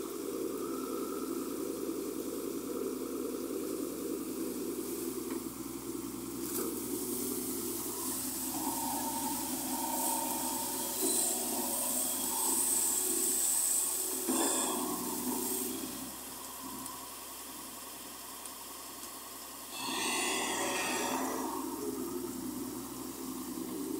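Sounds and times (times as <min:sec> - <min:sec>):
diesel engine running: 0:00.0 - 0:23.9
water splashing and hissing: 0:03.7 - 0:23.9.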